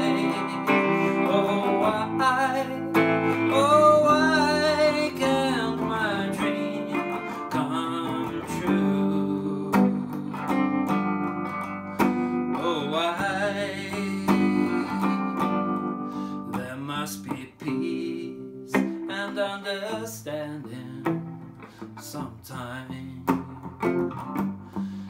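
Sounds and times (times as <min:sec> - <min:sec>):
person singing: 0:00.0 - 0:23.8
electric guitar strumming chords: 0:00.0 - 0:25.0.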